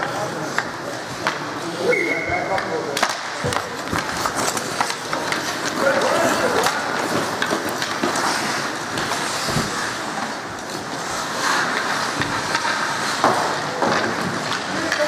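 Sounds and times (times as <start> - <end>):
hockey sticks and puck clacking: 0.0 - 15.0
skate blades scraping ice: 2.6 - 15.0.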